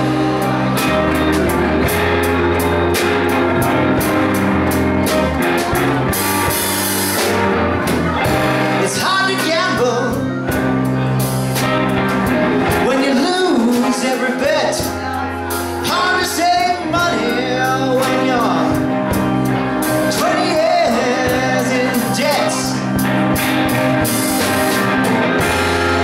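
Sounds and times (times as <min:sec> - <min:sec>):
bending guitar notes: 0:00.0 - 0:26.0
blues-rock band playing: 0:00.0 - 0:26.0.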